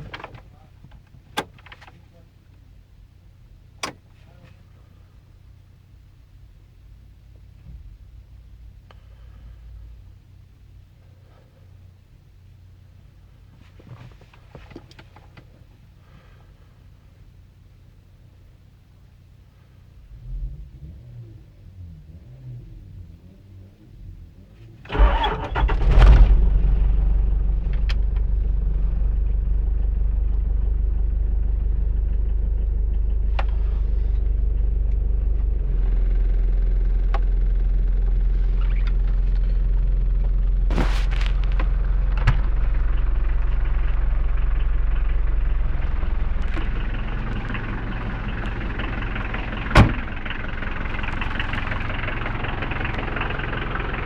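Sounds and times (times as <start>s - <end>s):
diesel engine cranking and idling: 0.0s - 13.5s, 22.7s - 54.0s.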